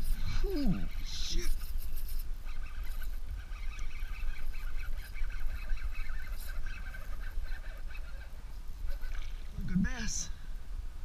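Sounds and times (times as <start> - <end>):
birds calling: 0.0 - 10.6.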